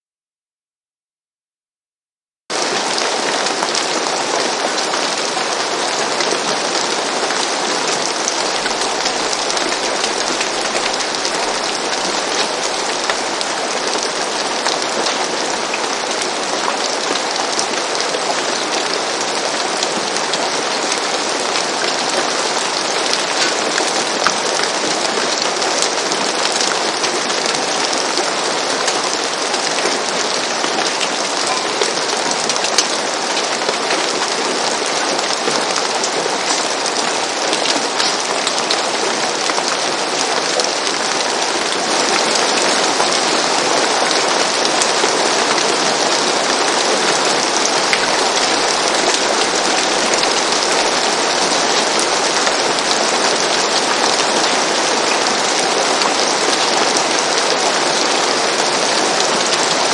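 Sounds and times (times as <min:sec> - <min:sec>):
rain falling on a roof: 0:02.5 - 0:59.9.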